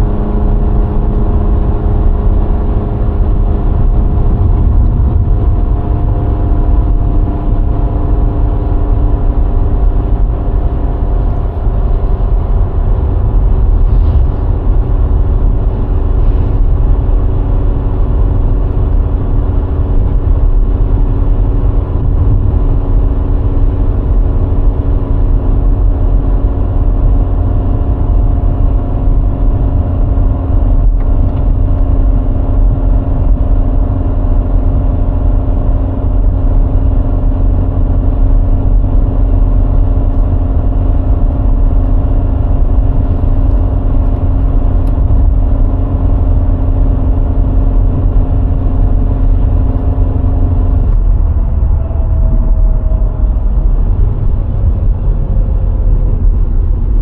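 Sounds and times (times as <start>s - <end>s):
car engine cruising: 0.0s - 57.0s
road and wind noise: 0.0s - 57.0s.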